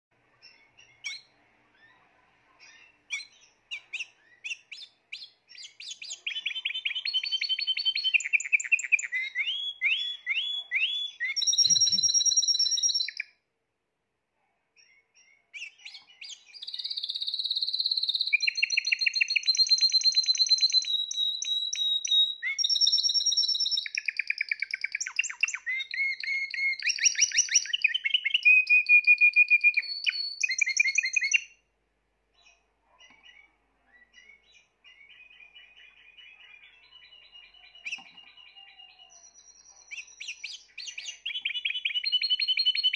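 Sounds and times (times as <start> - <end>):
canary singing trills: 0.2 - 13.4, 14.8 - 31.6, 32.3 - 42.9.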